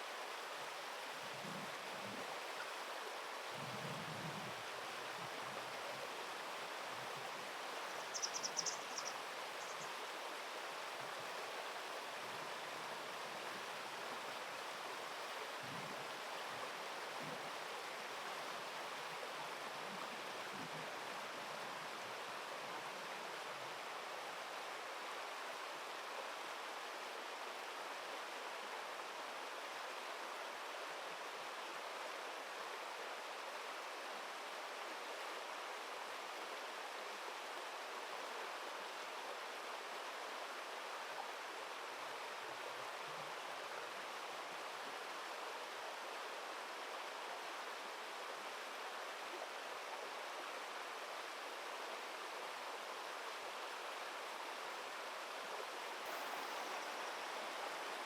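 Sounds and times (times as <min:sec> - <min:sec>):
river water rushing: 0:04.6 - 0:58.0.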